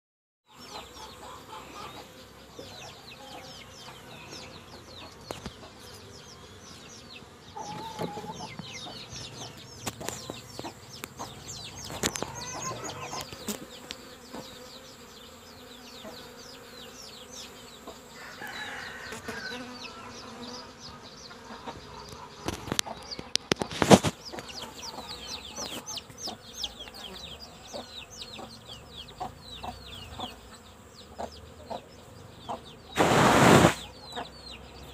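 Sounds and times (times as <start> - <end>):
honeybees buzzing: 0.5 - 34.9.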